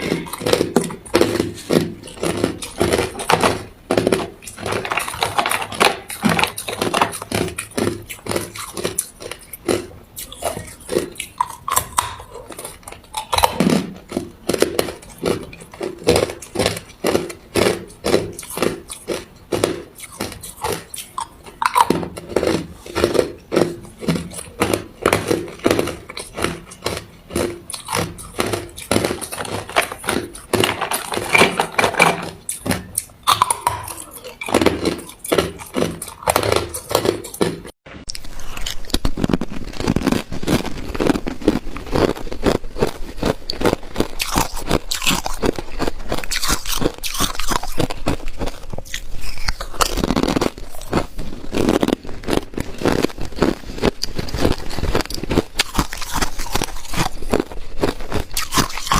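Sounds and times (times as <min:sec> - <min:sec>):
person chewing ice crunching: 0:00.0 - 0:58.9.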